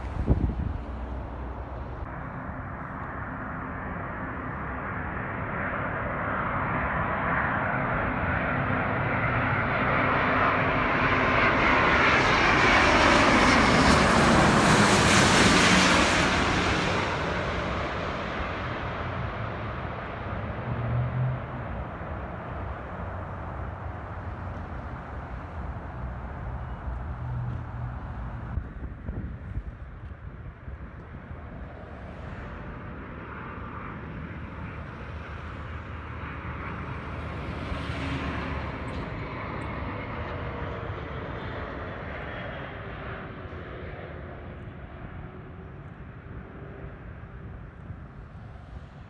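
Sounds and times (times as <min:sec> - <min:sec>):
jet engine roar passing overhead: 0:00.0 - 0:49.0.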